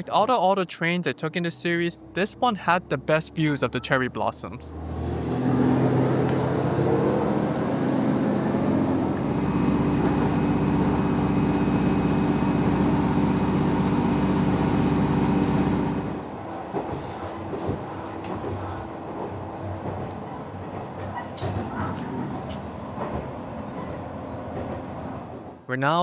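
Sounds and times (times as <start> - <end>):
diesel railcar engine drone: 0.8 - 25.7.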